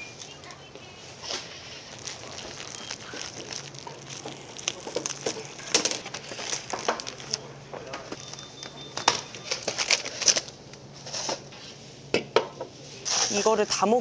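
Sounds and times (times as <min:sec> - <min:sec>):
plastic packaging crinkling: 0:00.0 - 0:11.5
items clattering: 0:01.1 - 0:12.5.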